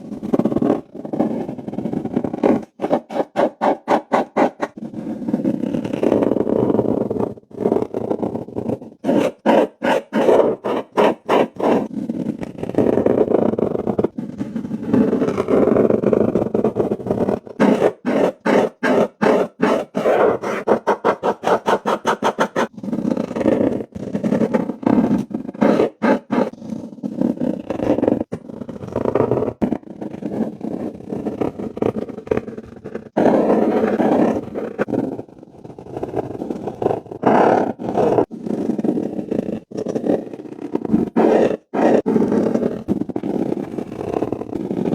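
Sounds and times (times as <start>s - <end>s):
marker scraping on paper: 0.2s - 44.9s.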